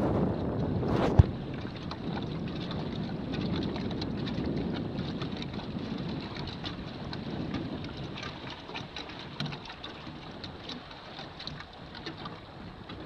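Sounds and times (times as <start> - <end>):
water splashing against boat hull: 0.0 - 13.0.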